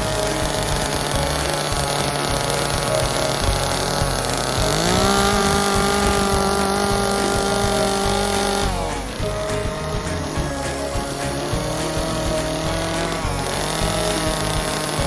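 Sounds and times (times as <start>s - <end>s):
small chainsaw revving: 0.0s - 15.0s.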